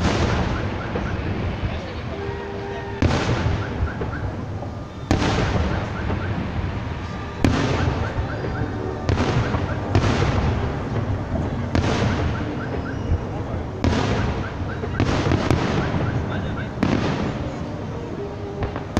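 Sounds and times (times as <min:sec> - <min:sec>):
fireworks bursting with sharp bangs: 0:00.0 - 0:18.9.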